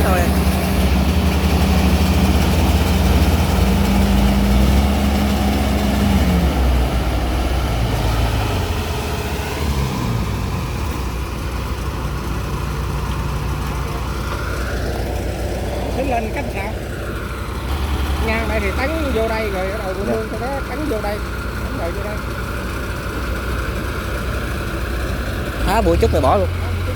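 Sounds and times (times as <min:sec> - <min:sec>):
farm machinery engine running: 0:00.0 - 0:26.9.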